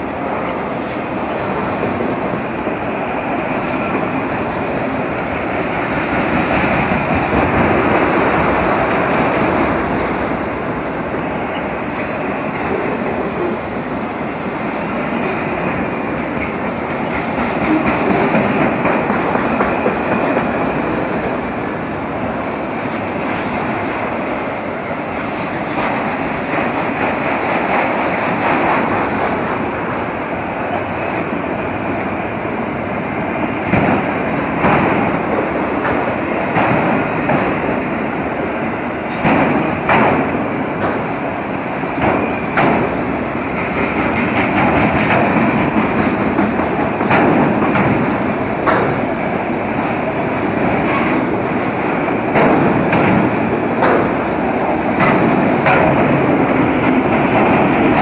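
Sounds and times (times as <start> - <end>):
freight train wheels rumbling on rails: 0.0 - 58.0
train clanks: 0.0 - 58.0.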